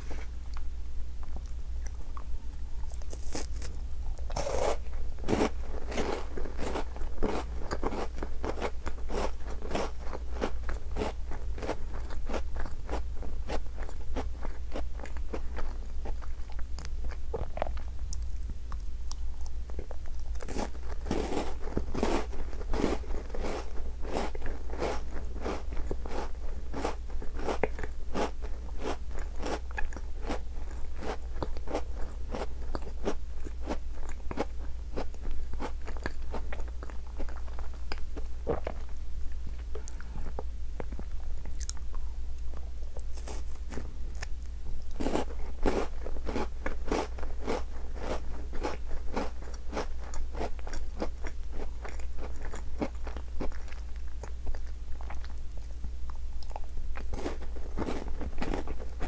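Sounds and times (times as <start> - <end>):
biscuit crunching while chewing: 0.5 - 42.0, 42.6 - 59.0.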